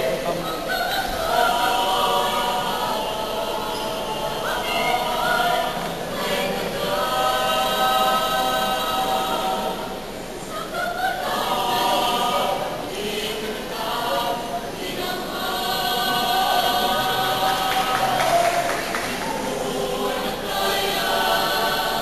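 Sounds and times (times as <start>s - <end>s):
choir singing in harmony: 0.0s - 22.0s.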